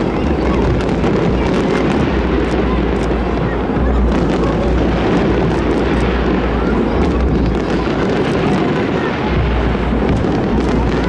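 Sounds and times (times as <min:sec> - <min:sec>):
fireworks crackles: 0:00.0 - 0:11.0
fireworks shells bursting: 0:00.0 - 0:11.0.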